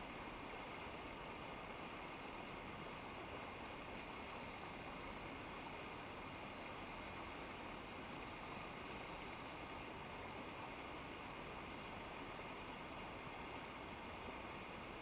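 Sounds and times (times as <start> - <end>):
mountain river rushing: 0.0 - 15.0.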